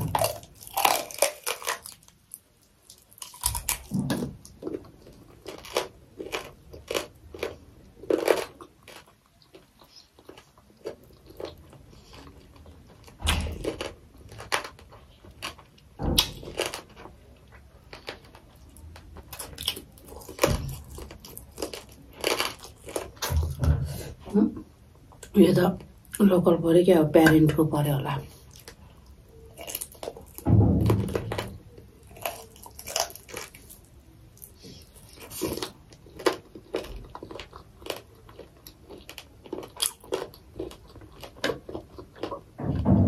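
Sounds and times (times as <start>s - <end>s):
person crunching chewing: 0.0s - 23.5s, 28.3s - 42.5s.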